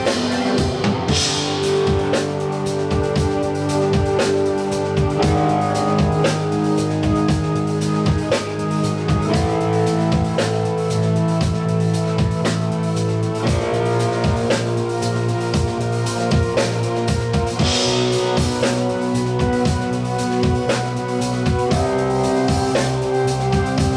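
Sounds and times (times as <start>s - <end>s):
drum kit beat: 0.0s - 23.9s.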